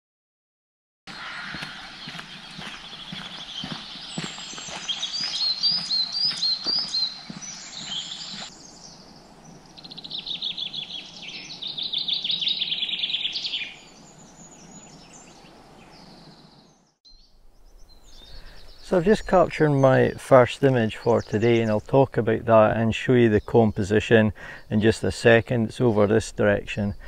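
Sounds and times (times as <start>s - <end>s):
bird trilling song: 1.1s - 27.0s
songbirds chirping: 1.1s - 27.0s.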